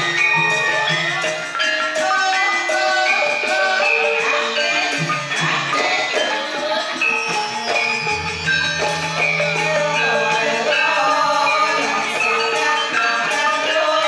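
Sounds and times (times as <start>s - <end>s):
gamelan metallophones and gong-chimes: 0.0s - 14.0s.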